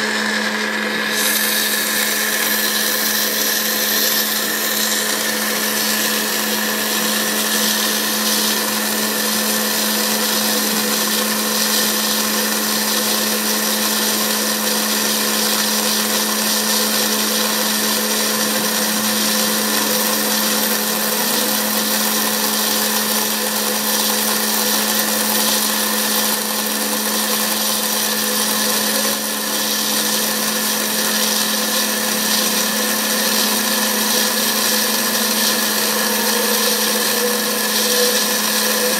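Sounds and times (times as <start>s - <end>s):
hiss of cutting foam: 0.0s - 38.9s
router spindle whine: 0.0s - 38.9s.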